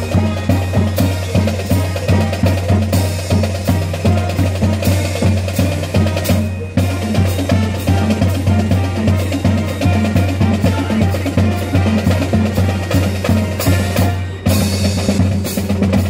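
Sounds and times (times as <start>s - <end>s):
brass band playing: 0.0s - 16.0s
drums beating: 0.0s - 16.0s.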